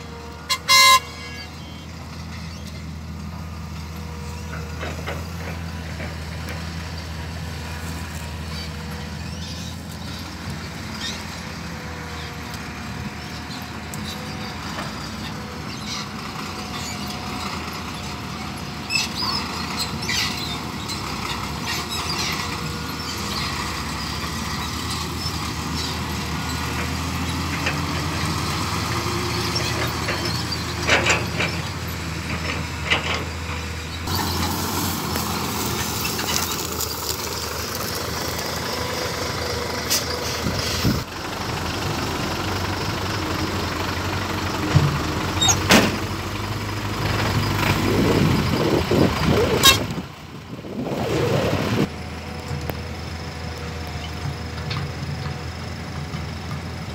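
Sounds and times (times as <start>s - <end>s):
diesel truck engines running: 0.0s - 56.9s.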